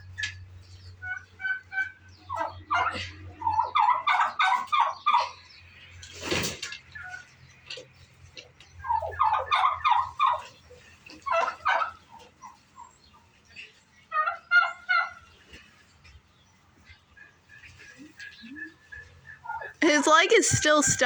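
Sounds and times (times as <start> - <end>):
turkeys gobbling: 0.0 - 21.0.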